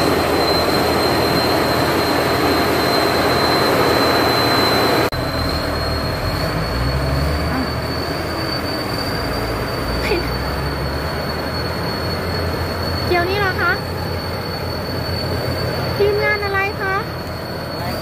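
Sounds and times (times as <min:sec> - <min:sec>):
diesel engine running hard: 0:00.0 - 0:18.0
high turbo whistle: 0:00.0 - 0:18.0.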